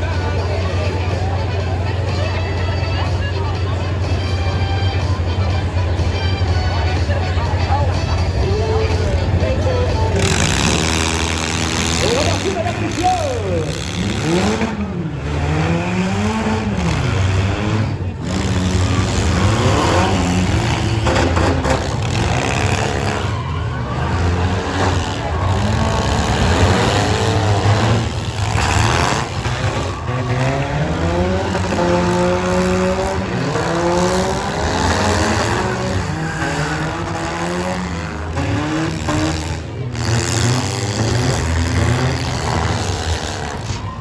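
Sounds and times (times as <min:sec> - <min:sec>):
car engines revving: 0:00.0 - 0:44.0
low engine rumble: 0:00.0 - 0:44.0.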